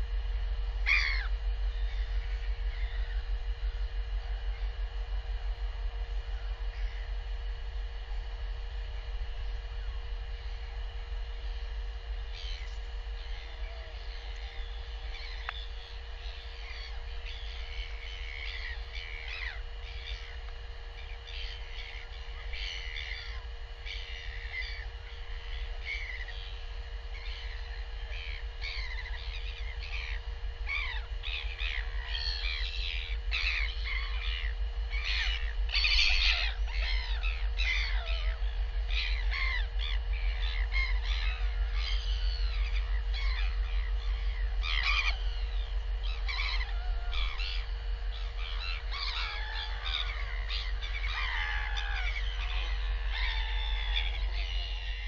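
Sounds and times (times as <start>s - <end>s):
faint hum: 0.0s - 55.0s
wild birds calling: 0.0s - 55.0s.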